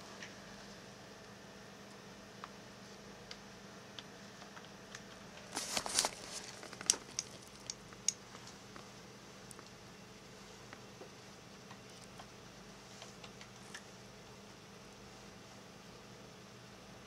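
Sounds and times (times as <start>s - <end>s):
computer hum: 0.0s - 17.0s.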